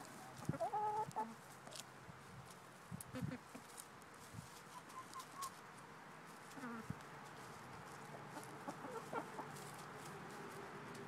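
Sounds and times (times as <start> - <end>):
hens clucking quietly: 0.0 - 5.7, 6.3 - 11.0.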